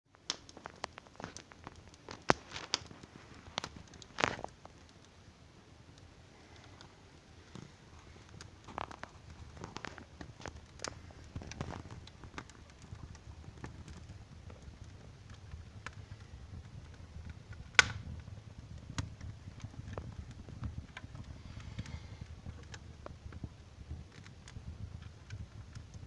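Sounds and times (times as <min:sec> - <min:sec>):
wood fire crackling: 0:00.1 - 0:26.0
low steady rumble: 0:04.5 - 0:26.0.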